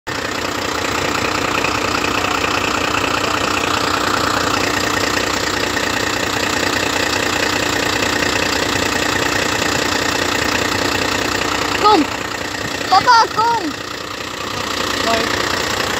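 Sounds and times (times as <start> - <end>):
engine idling: 0.1 - 15.9.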